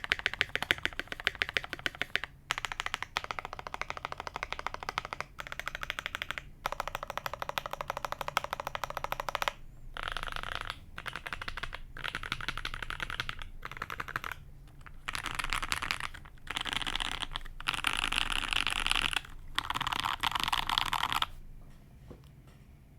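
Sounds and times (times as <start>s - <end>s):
mechanical keyboard typing: 0.0s - 21.4s.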